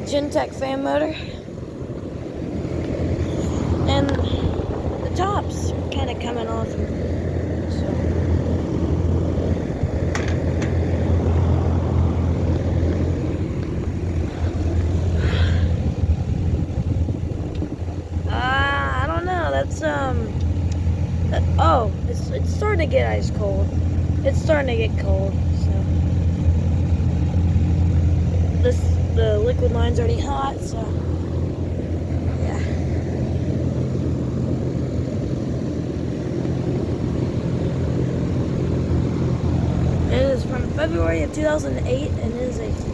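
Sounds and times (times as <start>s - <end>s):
air conditioner unit humming: 0.0s - 42.9s.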